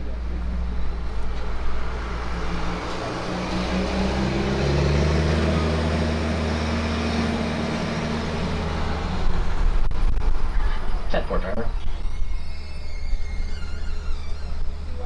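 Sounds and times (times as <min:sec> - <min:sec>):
road noise: 0:00.0 - 0:15.0
tram engine hum: 0:00.0 - 0:15.0.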